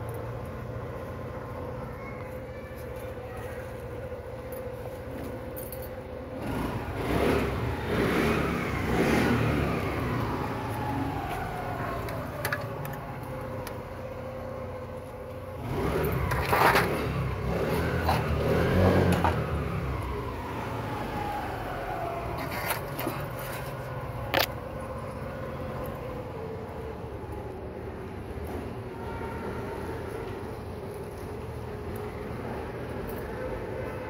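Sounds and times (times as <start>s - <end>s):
motor vehicles passing by: 0.0s - 34.0s.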